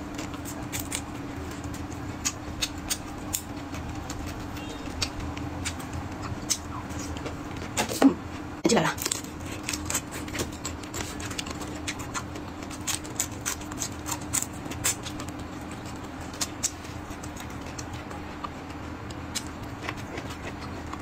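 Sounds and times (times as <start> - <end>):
chewing: 0.0 - 7.8, 9.0 - 21.0
faint steady hum: 0.0 - 21.0.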